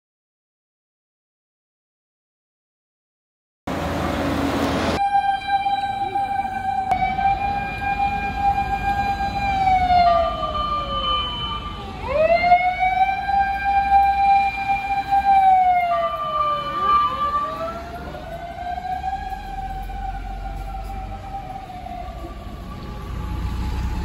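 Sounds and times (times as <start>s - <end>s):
fire engine sirens wailing: 3.7s - 24.0s
truck engines and traffic rumble: 3.7s - 24.0s.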